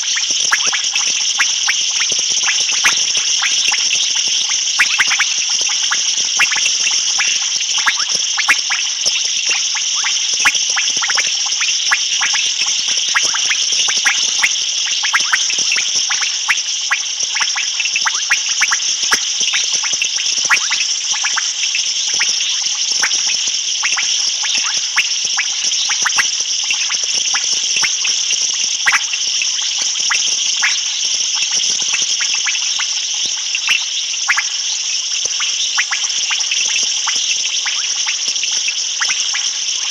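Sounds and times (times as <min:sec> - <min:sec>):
short frog calls: 0:00.0 - 0:39.9.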